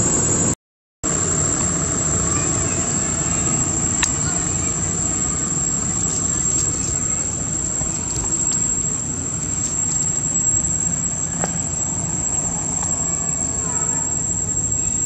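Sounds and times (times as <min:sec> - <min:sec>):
steady low rumble: 0:00.0 - 0:15.0
dry leaves crackling: 0:01.1 - 0:15.0
high-pitched insect drone: 0:01.1 - 0:15.0.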